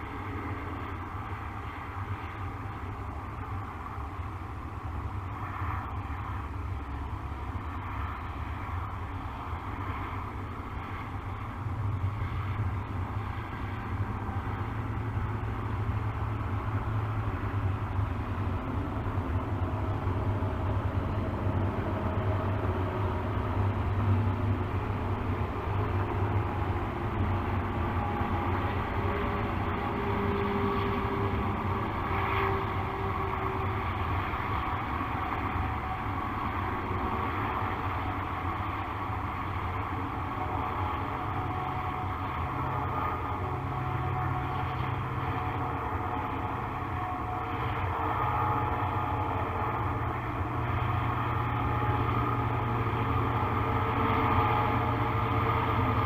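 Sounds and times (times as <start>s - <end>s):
distant traffic rumble: 0.0s - 56.0s.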